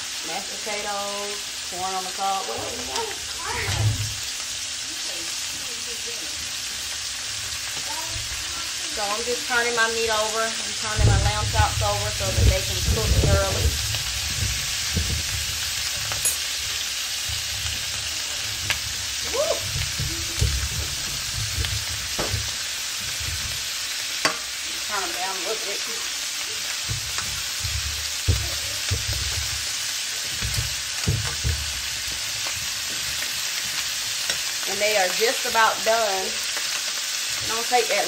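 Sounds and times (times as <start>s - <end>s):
meat sizzling in a pan: 0.0s - 38.0s.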